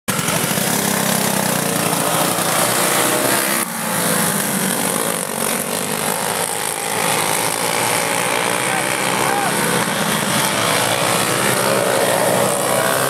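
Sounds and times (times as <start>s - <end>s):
kart engines racing past: 0.1s - 13.0s.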